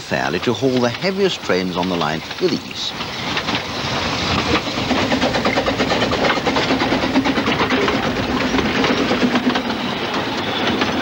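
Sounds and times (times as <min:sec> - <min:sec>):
steam locomotive exhaust beats: 0:00.0 - 0:11.0
wheels clattering over rail joints: 0:00.0 - 0:11.0.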